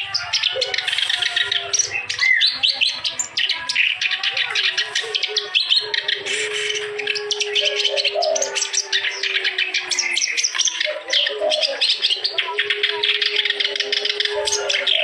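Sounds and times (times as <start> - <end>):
reed warbler singing: 0.0 - 15.0.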